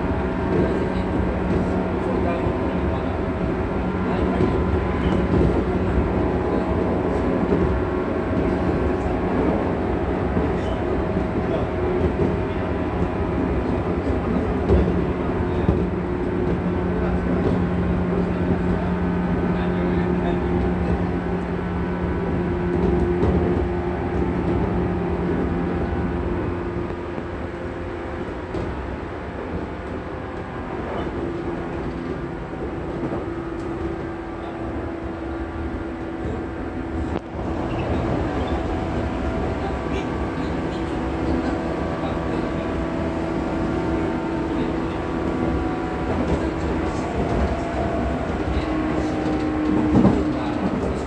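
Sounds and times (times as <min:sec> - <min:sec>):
electric train motor hum: 0:00.0 - 0:51.0
wheels rumbling on rails: 0:00.0 - 0:51.0.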